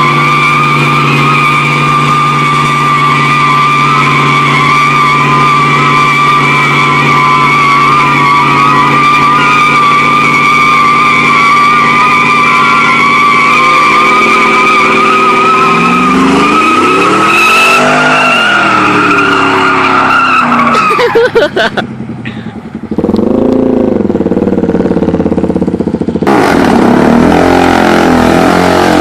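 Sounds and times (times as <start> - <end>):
engine revving high: 0.0 - 21.4, 23.0 - 29.0
tires squealing: 0.0 - 22.4, 23.0 - 29.0.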